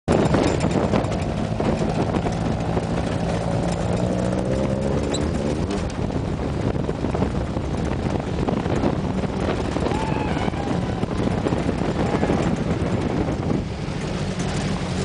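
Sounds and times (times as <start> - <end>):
buggy engine running: 0.1 - 15.0
wind buffeting microphone: 0.1 - 15.0.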